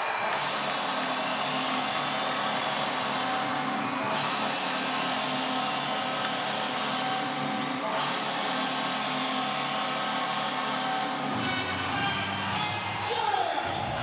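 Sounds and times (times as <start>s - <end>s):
background music sustained chords: 0.5s - 13.1s.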